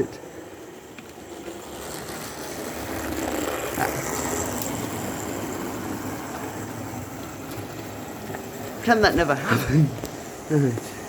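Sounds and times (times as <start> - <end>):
locomotive motor whirring: 0.0 - 9.4
model train wheels rumbling: 0.0 - 11.0.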